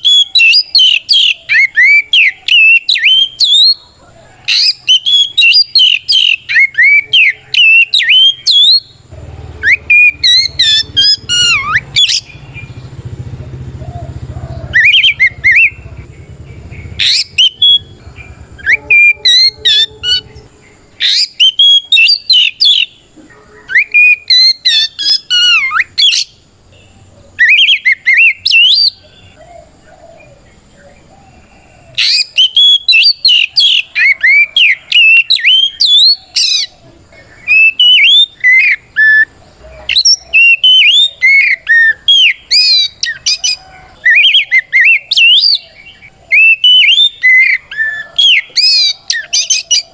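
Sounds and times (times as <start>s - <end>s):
bird singing whistled notes: 0.0s - 3.9s, 4.5s - 31.0s, 31.9s - 49.9s.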